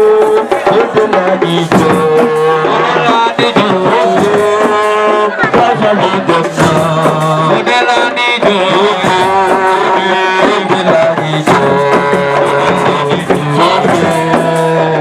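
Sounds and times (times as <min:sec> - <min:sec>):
hand drumming: 0:00.0 - 0:15.0.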